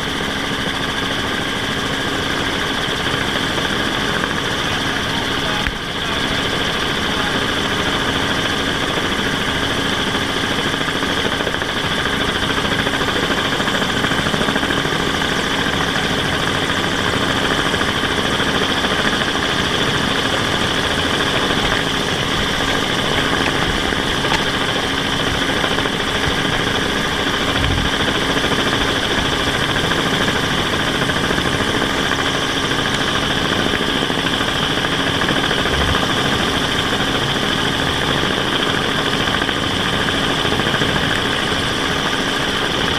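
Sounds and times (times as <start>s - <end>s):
drone rotors humming: 0.0s - 42.9s.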